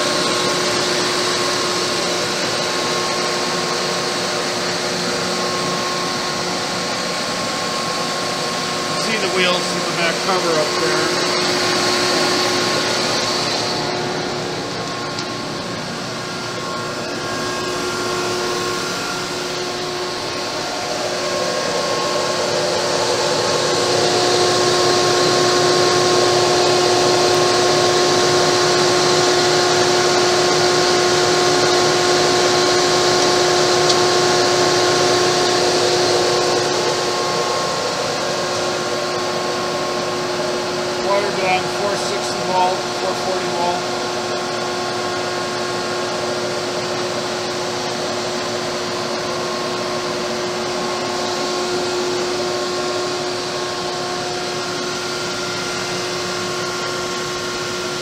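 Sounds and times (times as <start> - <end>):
grinder motor whirring hum: 0.0 - 58.0.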